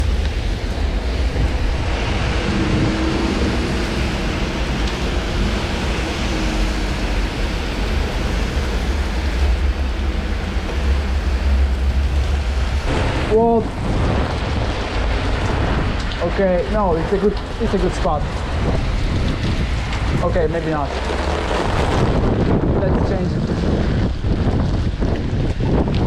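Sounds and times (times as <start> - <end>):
heavy rain pouring: 0.0 - 26.0
wind buffeting microphone: 0.0 - 26.0.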